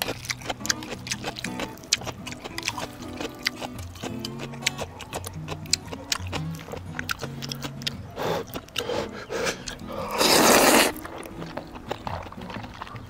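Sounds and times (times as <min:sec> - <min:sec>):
chewing clicks: 0:00.0 - 0:13.0
noodles slurped: 0:00.0 - 0:13.0.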